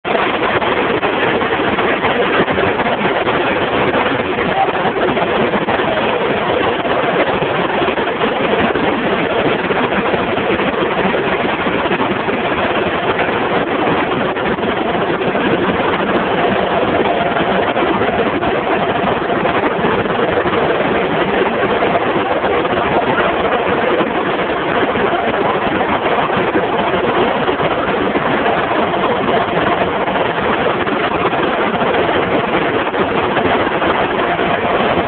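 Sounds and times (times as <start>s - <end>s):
printing press mechanical din: 0.0s - 35.0s.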